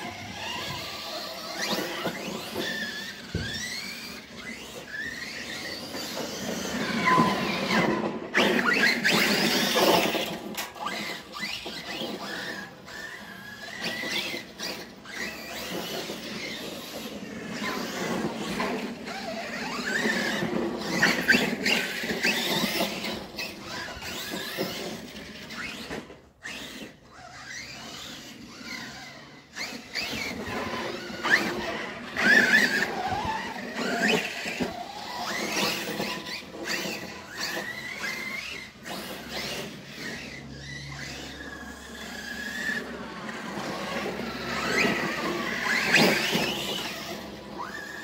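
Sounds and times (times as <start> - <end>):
electric motor whining: 0.0 - 48.0
tire squeals: 0.0 - 48.0.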